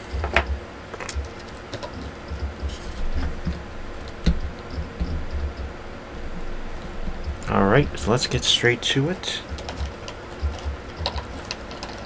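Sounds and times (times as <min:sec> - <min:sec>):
handling bumps: 0:00.0 - 0:12.0.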